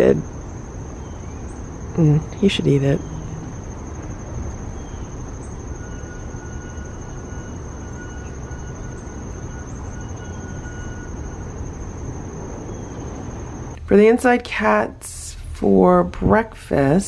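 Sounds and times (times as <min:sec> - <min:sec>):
high-pitched whine: 0:00.0 - 0:13.8.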